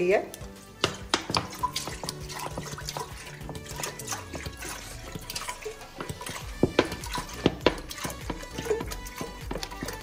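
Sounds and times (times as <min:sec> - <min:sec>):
background music: 0:00.0 - 0:10.0
milk pouring into metal pot: 0:00.5 - 0:10.0.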